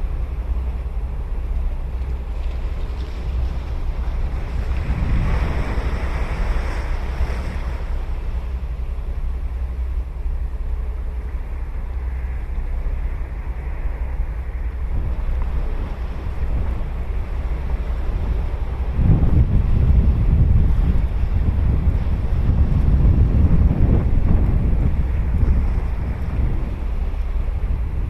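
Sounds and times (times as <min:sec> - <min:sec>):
wind rumble on microphone: 0:00.0 - 0:28.0
ocean surf on sandy beach: 0:02.2 - 0:10.2, 0:10.8 - 0:28.0.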